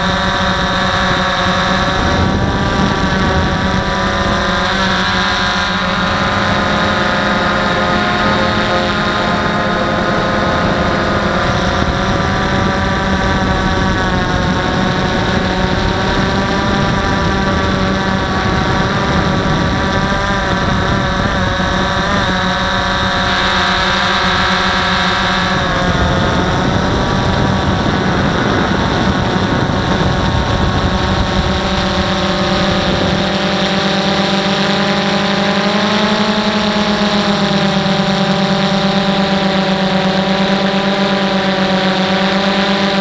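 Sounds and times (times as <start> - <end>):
drone motors whining in flight: 0.0 - 43.0.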